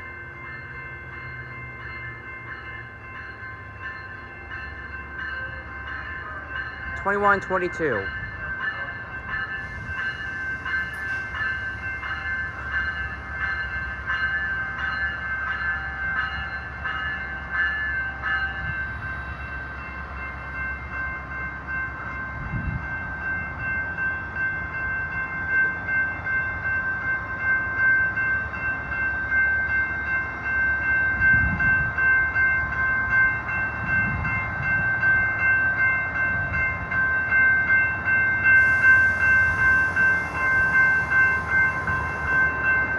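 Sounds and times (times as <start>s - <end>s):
bell ringing: 0.0s - 22.3s, 22.9s - 42.9s
diesel locomotive engine rumbling: 0.0s - 42.9s.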